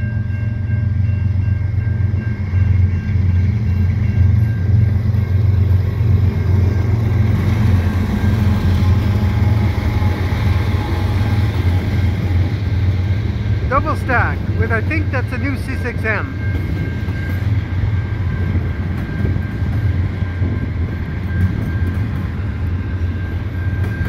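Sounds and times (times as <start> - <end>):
crossing bell ringing: 0.0 - 24.0
diesel locomotives rumbling past: 0.0 - 24.0.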